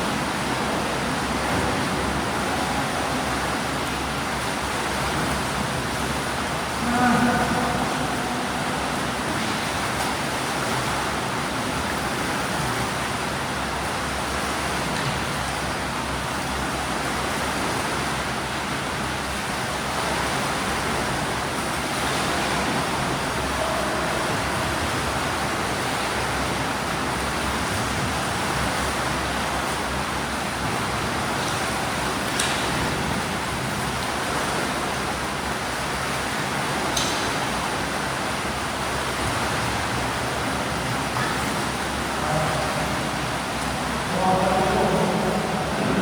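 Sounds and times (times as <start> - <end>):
water splashing in pool: 0.0 - 46.0.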